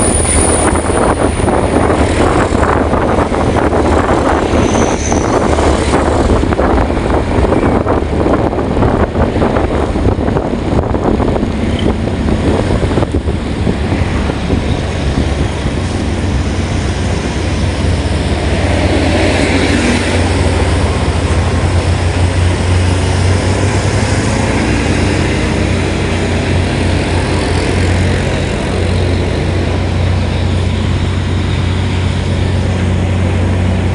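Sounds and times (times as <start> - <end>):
low engine rumble: 0.0 - 33.9.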